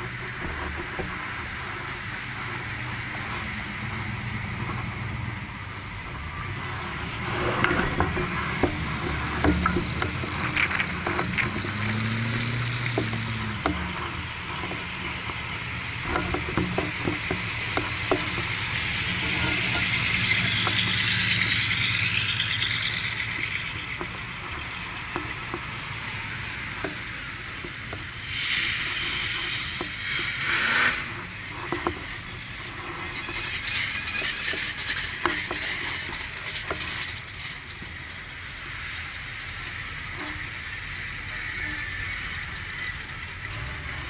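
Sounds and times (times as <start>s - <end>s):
car engine running: 0.0s - 44.0s
car passing: 0.0s - 44.0s
road and tyre noise: 0.0s - 44.0s.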